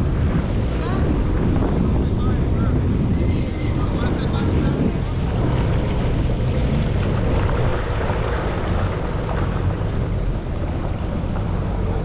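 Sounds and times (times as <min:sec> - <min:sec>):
jet ski engine running: 0:00.0 - 0:12.0
wind buffeting microphone: 0:00.0 - 0:12.0.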